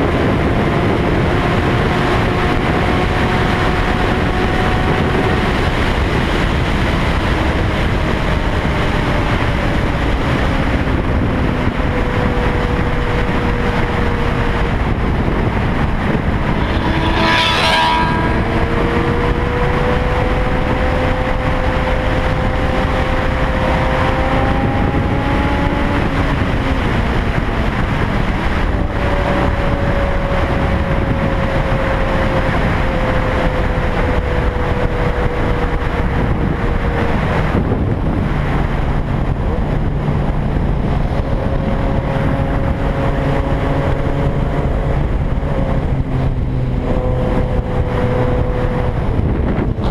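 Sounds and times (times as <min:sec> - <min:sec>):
dense rumbling noise: 0:00.0 - 0:49.9.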